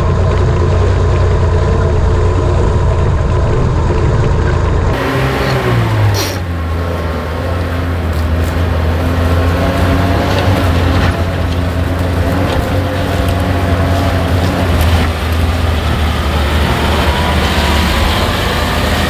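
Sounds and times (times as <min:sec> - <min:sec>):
large diesel engine running: 0:00.0 - 0:19.0.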